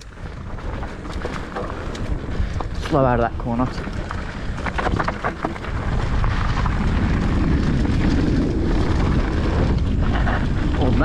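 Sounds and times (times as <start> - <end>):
bike rattling over rough ground: 0.0 - 11.0
bike tyres rumbling on dirt: 0.0 - 11.0
wind rushing over microphone: 0.0 - 11.0.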